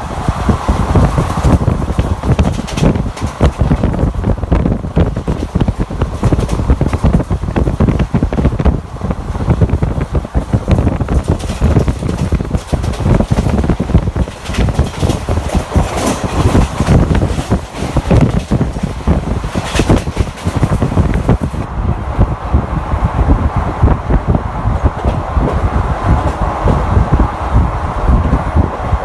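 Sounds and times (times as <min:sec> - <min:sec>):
passenger train rumbling: 0:00.0 - 0:29.0
wind buffeting microphone: 0:00.0 - 0:29.0.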